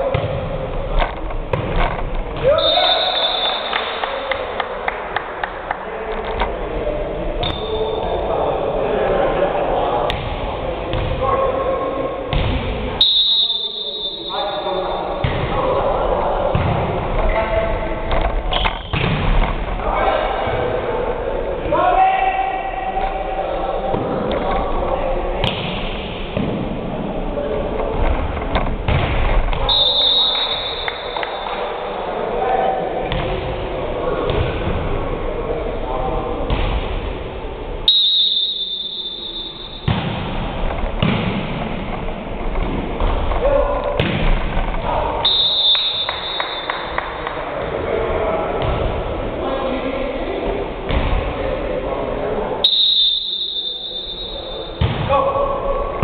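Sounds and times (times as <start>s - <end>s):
court noise: 0.0s - 56.0s
players' voices: 0.0s - 56.0s.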